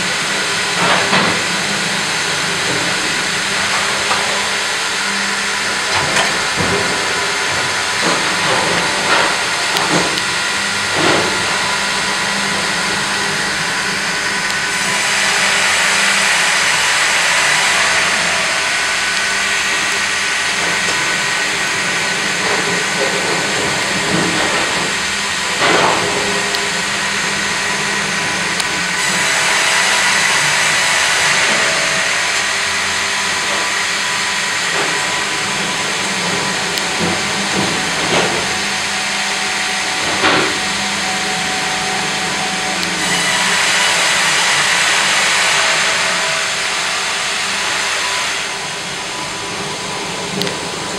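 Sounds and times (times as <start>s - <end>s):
band saw sawing a log: 0.0s - 50.4s.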